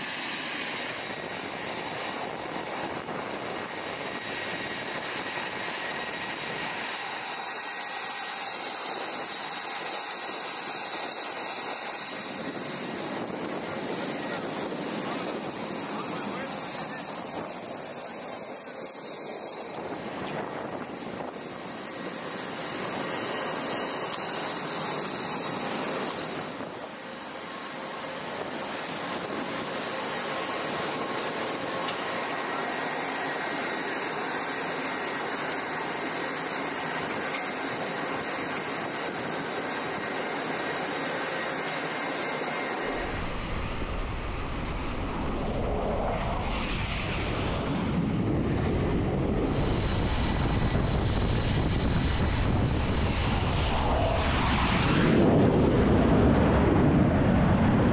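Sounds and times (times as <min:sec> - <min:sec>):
aircraft engines roaring: 0:00.0 - 0:57.9
high engine whine: 0:00.0 - 0:57.9.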